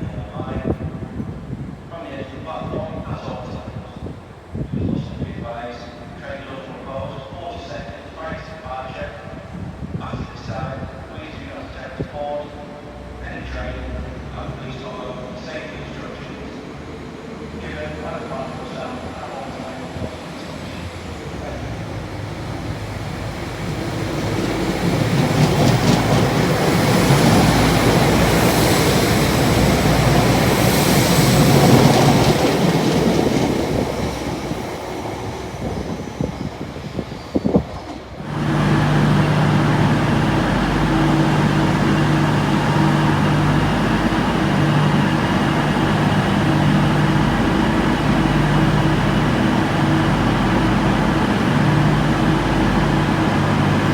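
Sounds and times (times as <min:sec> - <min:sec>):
train engine droning hum: 0:00.0 - 0:53.9
train passing on rails: 0:00.0 - 0:53.9.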